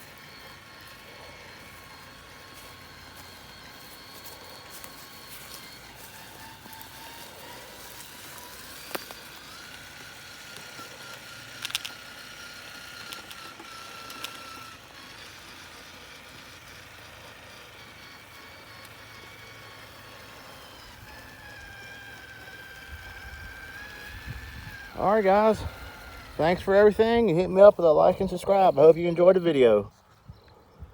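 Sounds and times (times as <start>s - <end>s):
electric motor whining: 0.0s - 30.9s.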